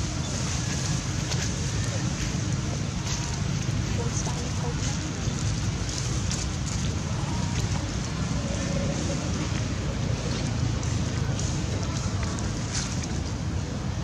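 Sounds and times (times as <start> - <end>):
faint crackles: 0.0 - 14.0
wind rumble on microphone: 0.0 - 14.0.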